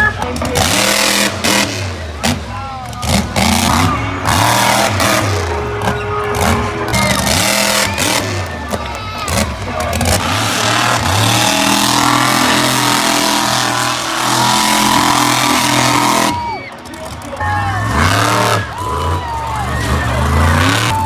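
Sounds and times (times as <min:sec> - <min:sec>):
truck engines revving: 0:00.0 - 0:21.0.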